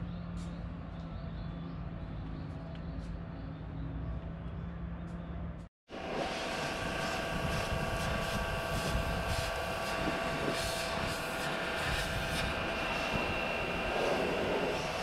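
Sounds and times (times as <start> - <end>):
machine whining and rumbling: 0.0 - 15.0.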